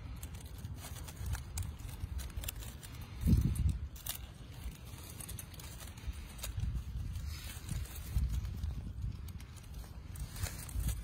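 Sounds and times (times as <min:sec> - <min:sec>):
dry leaves crinkling: 0:00.0 - 0:11.0
steady low rumble: 0:00.0 - 0:11.0.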